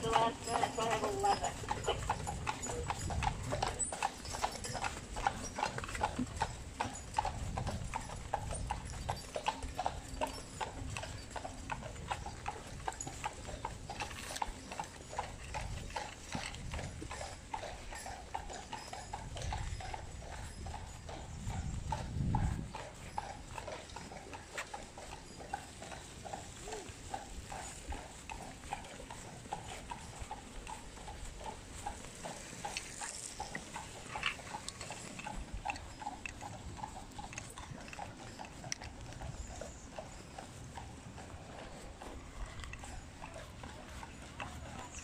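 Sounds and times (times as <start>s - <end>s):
horse hooves clip-clopping on road: 0.0s - 45.0s.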